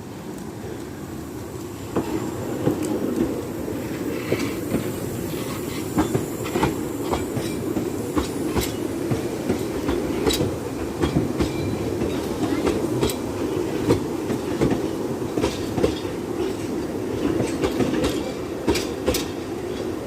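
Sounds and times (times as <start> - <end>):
train rumbling on track: 0.0 - 20.0
wheels clicking over rail joints: 0.3 - 20.0.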